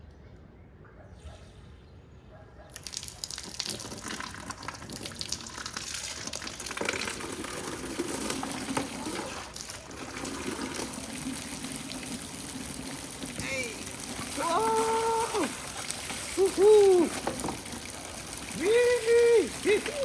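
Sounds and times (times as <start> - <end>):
water running: 2.8 - 20.0.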